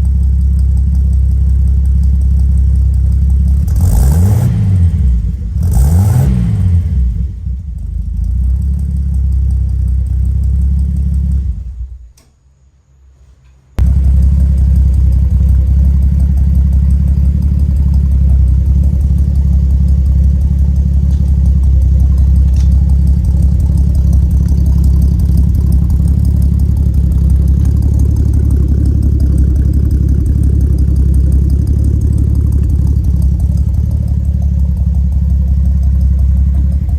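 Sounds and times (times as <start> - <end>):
car engine idling exhaust note: 0.0 - 12.1, 13.8 - 36.9.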